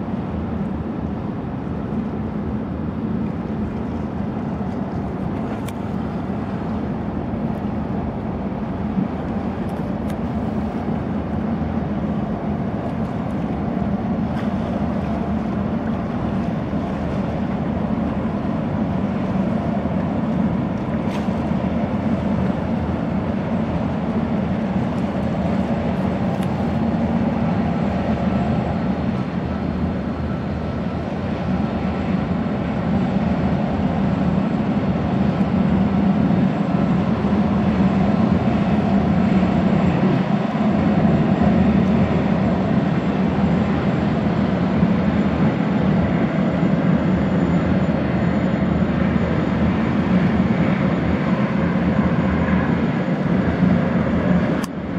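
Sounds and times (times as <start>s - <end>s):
ferry turbines low drone: 0.0s - 54.9s.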